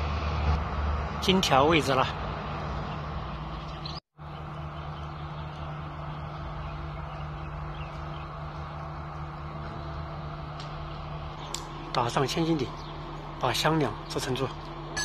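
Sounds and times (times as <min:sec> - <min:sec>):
machinery engine humming: 0:00.0 - 0:15.0.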